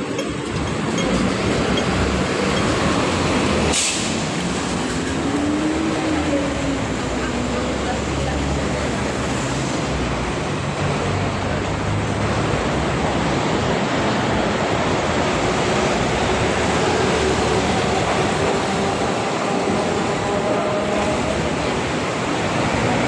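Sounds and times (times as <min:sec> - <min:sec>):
traffic on a wet road: 0:00.0 - 0:23.0.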